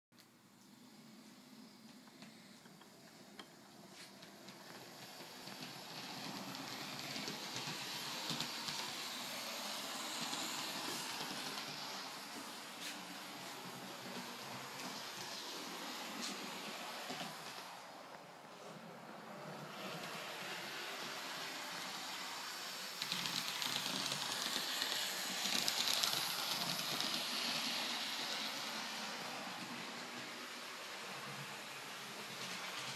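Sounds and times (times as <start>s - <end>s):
train steam hissing: 2.6s - 32.9s.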